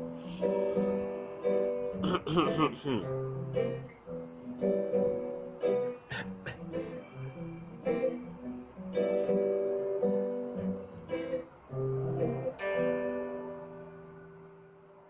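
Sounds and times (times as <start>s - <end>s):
blues guitar strumming chords: 0.0s - 15.0s.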